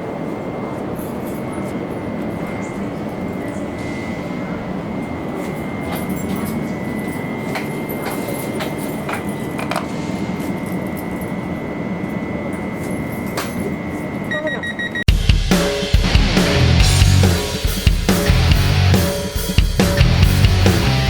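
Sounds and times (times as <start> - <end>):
train rumbling: 0.0 - 14.4, 15.9 - 21.0.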